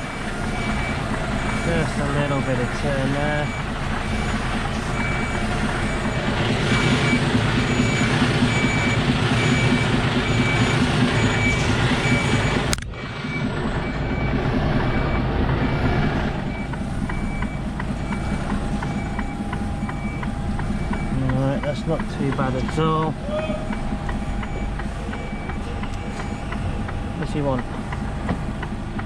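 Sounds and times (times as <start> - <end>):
diesel engine at low revs: 0.0 - 29.0
truck reversing alarm beeping: 0.0 - 29.0.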